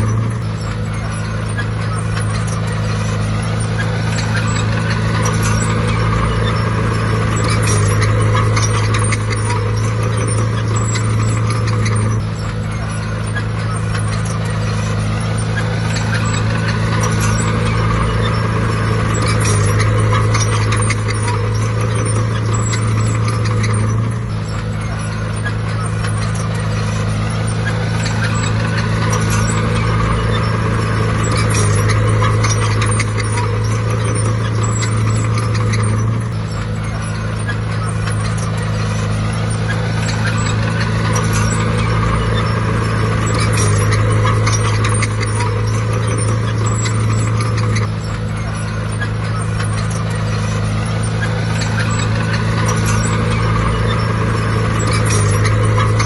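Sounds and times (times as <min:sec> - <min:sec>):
bulldozer diesel engine under load: 0:00.0 - 0:56.0
clatter of clicks: 0:00.0 - 0:56.0.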